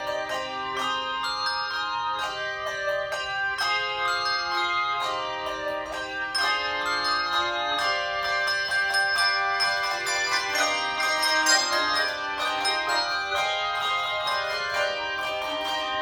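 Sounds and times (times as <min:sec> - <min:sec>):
handbell choir playing: 0:00.0 - 0:16.0.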